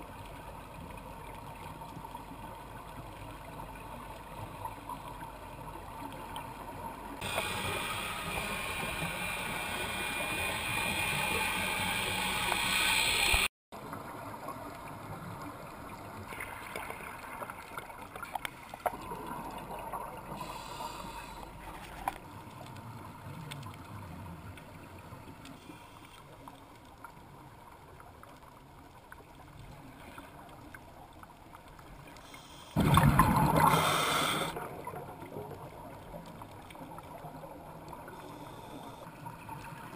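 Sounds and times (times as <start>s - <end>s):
underwater bubbles gurgling: 0.0s - 25.5s, 26.3s - 39.9s.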